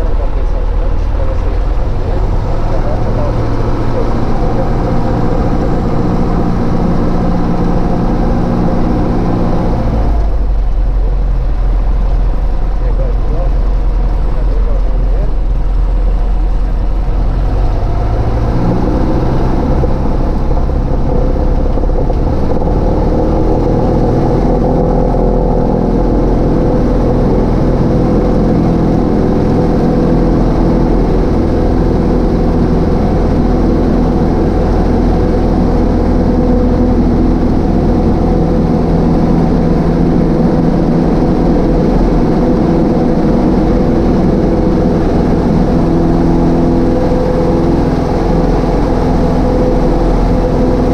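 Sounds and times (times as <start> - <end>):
small plane engine droning: 0.0 - 50.9.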